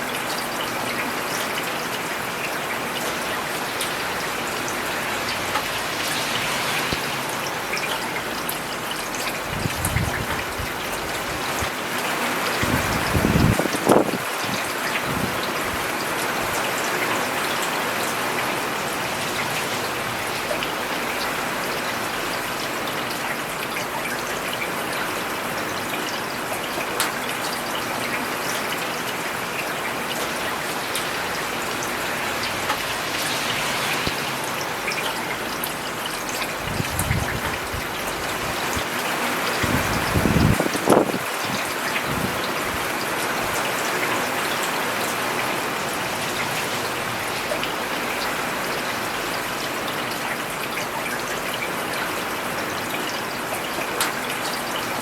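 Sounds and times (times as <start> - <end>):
rain pattering on a road: 0.0 - 55.0.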